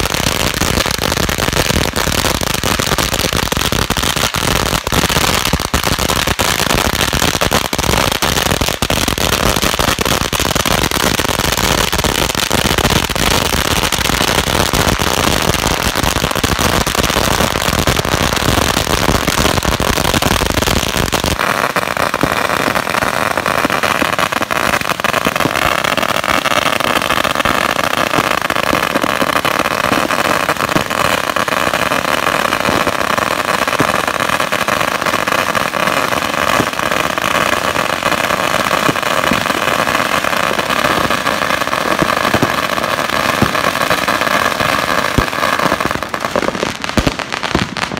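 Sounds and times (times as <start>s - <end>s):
firecrackers crackling: 0.0s - 47.9s.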